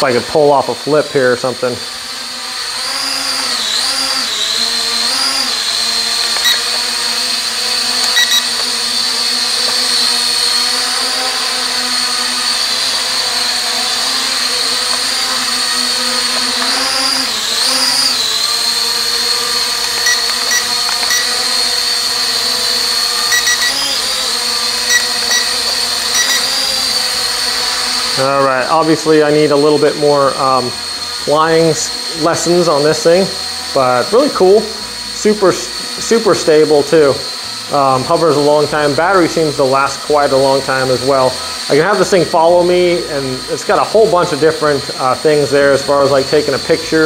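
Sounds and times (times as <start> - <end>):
toy drone propellers whining: 0.0 - 47.0.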